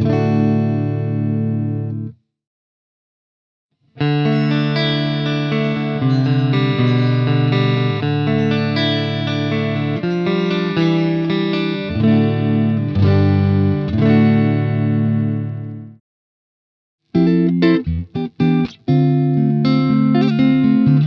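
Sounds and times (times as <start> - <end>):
clean electric guitar chords: 0.0 - 2.1, 4.0 - 16.0, 17.1 - 21.0.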